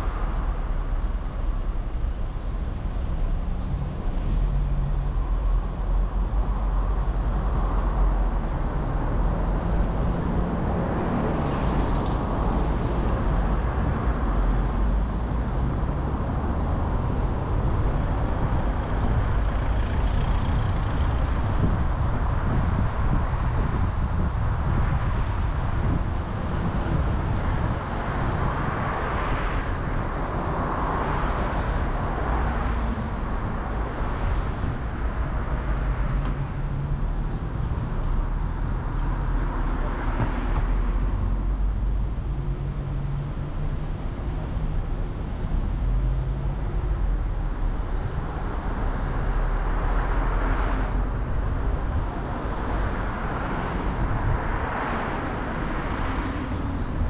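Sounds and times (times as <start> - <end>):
tyre noise on road: 0.0 - 57.0.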